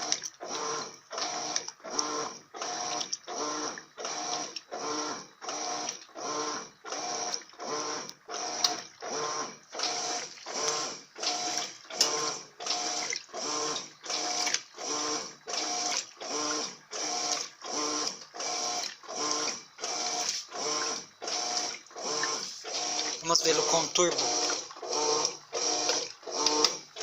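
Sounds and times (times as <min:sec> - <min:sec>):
washing machine agitating: 0:00.0 - 0:27.0.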